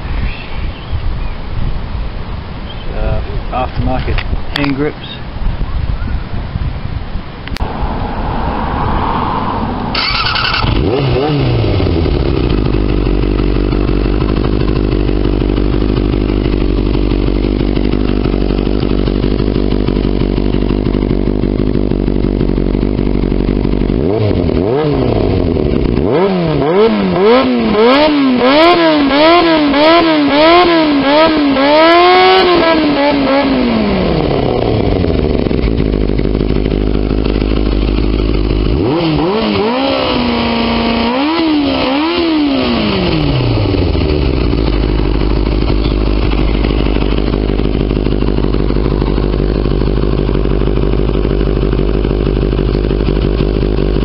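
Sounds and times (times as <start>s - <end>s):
motorcycle engine revving: 7.5s - 54.0s.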